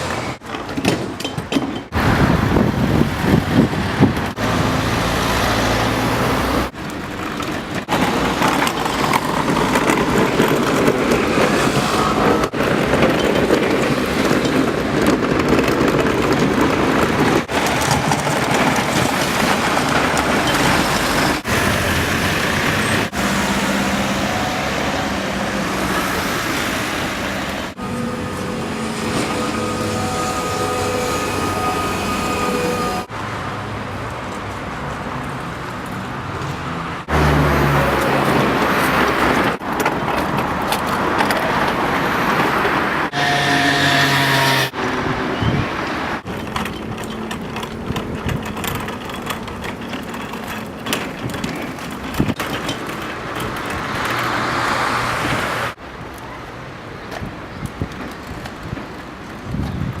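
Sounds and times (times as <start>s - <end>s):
vehicles passing on street: 0.0s - 60.0s.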